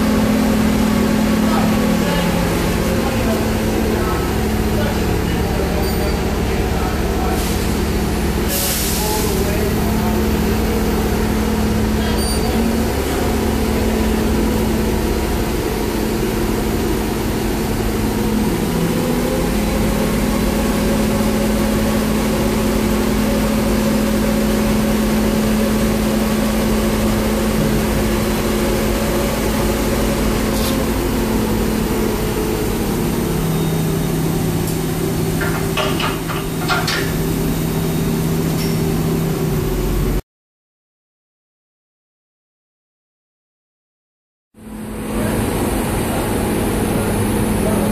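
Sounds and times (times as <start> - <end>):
heavy engine running under load: 0.0 - 40.2, 44.6 - 47.9.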